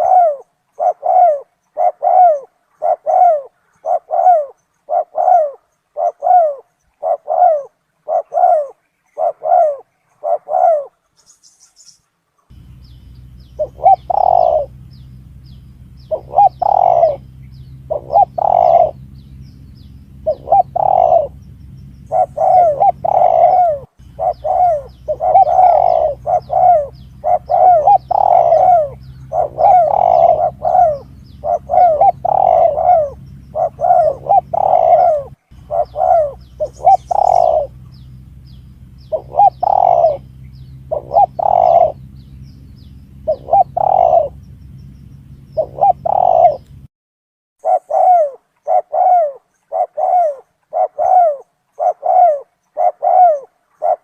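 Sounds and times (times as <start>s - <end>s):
dove cooing: 0.0s - 11.1s, 12.5s - 46.9s, 47.6s - 54.0s
low steady hum: 0.0s - 46.9s.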